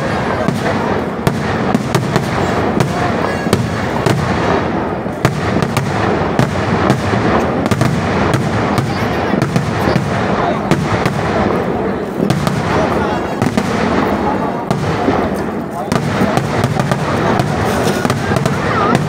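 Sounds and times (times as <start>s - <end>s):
firecracker bangs and crackles: 0.0s - 19.0s
rumble of fireworks explosions: 0.0s - 19.0s.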